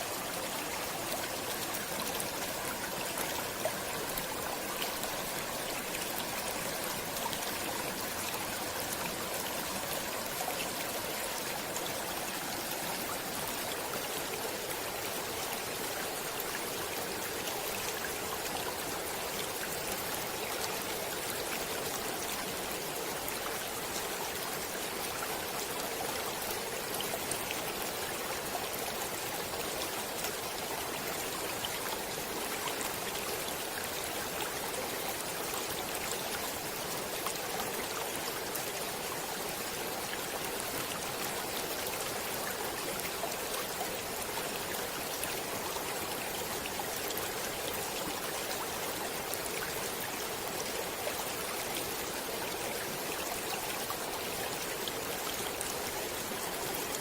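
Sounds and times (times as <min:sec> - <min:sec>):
stream water running over rocks: 0:00.0 - 0:57.0.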